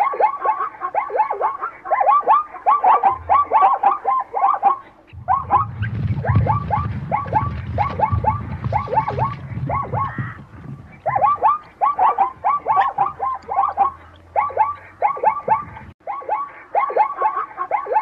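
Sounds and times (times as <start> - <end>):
zebra barking: 0.0 - 18.0.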